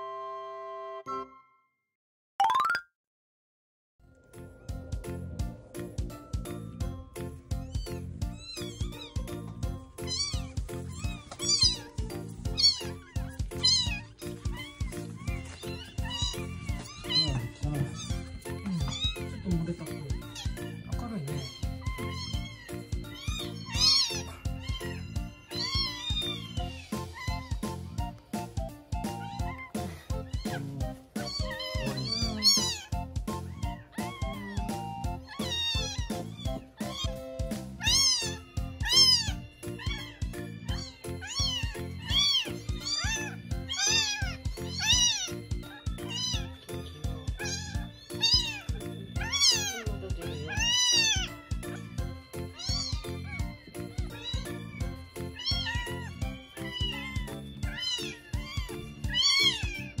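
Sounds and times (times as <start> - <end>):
background music: 4.1 - 60.0
kitten mewing: 7.6 - 28.0, 28.9 - 60.0.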